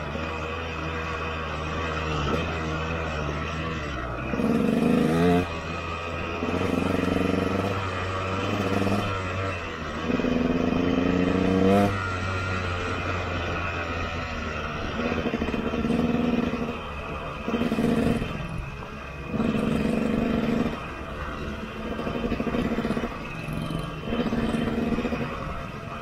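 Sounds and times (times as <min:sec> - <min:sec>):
two-stroke motorcycle engine: 0:00.0 - 0:26.0.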